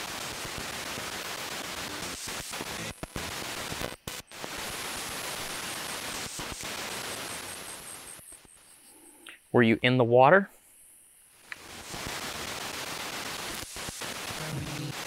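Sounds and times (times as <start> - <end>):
radio static hiss: 0.0 - 9.7, 10.5 - 15.0.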